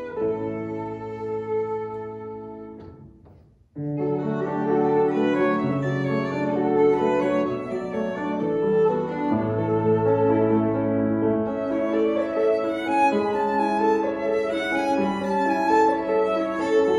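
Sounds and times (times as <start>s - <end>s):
violin and piano duet: 0.0s - 16.9s.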